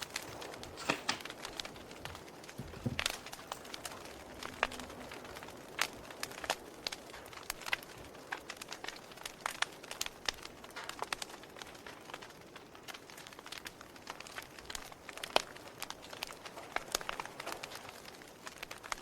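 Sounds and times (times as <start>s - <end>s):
bonfire crackling: 0.0s - 19.0s
low steady hiss: 0.0s - 19.0s.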